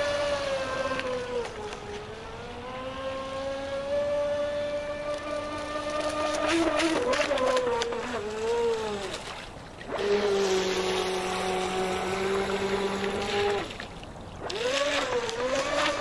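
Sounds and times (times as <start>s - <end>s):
electric motor whining: 0.0s - 9.1s, 9.9s - 13.7s, 14.4s - 16.0s.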